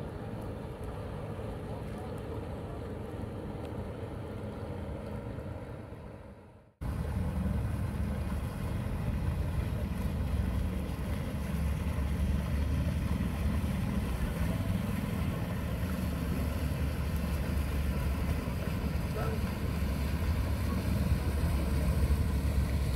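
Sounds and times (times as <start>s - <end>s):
outboard engines droning: 0.0s - 22.9s.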